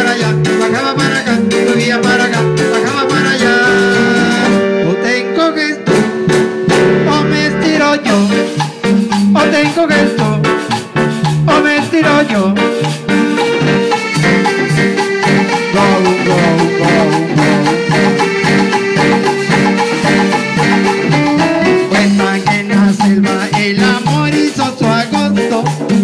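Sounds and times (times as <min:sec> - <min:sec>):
latin dance band playing: 0:00.0 - 0:26.0.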